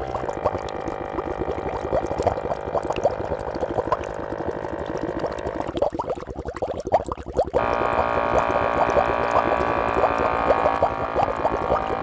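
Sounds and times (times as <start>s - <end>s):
bubbling plops: 0.0s - 12.0s
steady pump hum: 0.0s - 12.0s
water trickling and gurgling: 0.0s - 12.0s.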